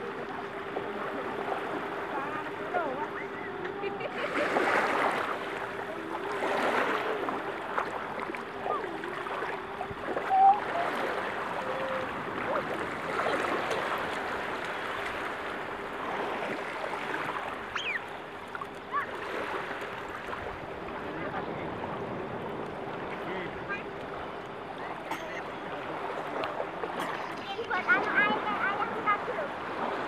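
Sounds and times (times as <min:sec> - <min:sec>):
faint steady hum: 0:00.0 - 0:30.0
surf washing over sand: 0:00.0 - 0:30.0.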